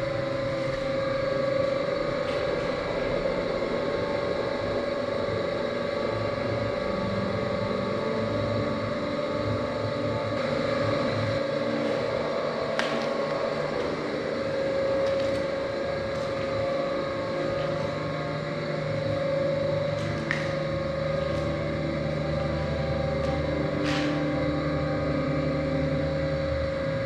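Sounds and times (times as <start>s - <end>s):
droning ambient music: 0.0s - 27.0s.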